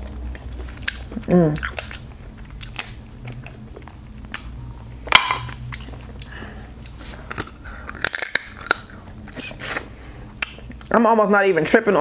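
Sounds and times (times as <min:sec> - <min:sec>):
chewing with mouth smacks: 0:00.0 - 0:05.0, 0:05.6 - 0:11.0.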